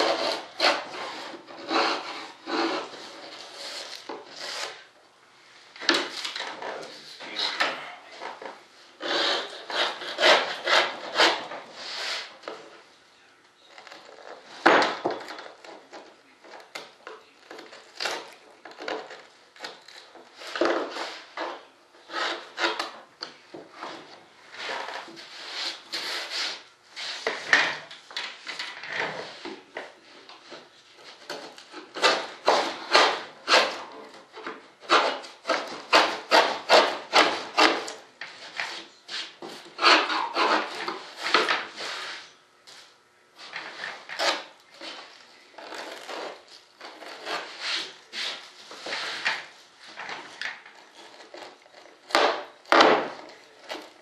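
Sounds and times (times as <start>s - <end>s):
hand tool scraping a surface: 0.0s - 4.9s, 5.8s - 12.7s, 13.7s - 23.0s, 23.7s - 27.9s, 28.5s - 42.4s, 43.4s - 54.0s.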